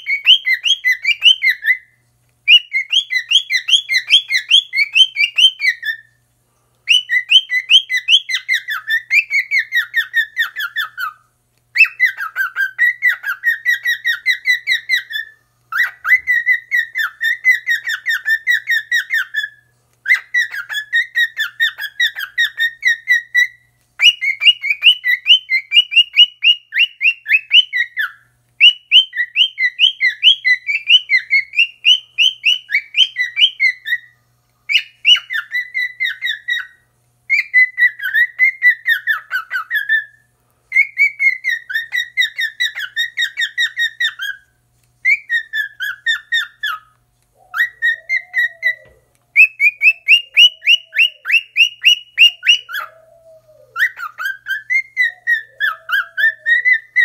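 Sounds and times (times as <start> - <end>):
cockatiel chirping whistles: 0.0 - 6.1, 6.9 - 34.1, 34.7 - 57.0.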